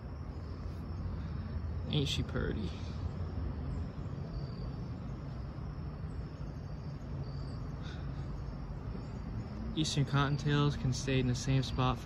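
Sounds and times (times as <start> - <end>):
high insect chirps: 0.0 - 12.0.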